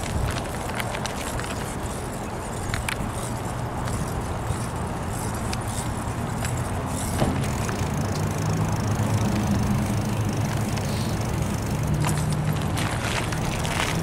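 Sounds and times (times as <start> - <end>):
bicycle tyre rumble on asphalt: 0.0 - 14.0
small clicks and rattles: 0.0 - 14.0.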